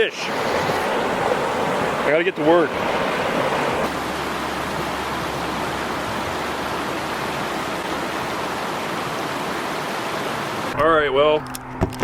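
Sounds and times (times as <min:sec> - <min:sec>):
loud flowing water: 0:00.0 - 0:10.8.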